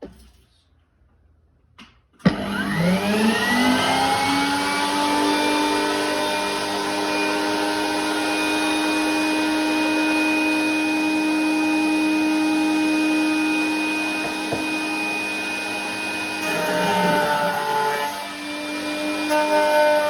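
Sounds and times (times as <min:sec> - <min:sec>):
wood router motor whine: 0:02.3 - 0:20.0.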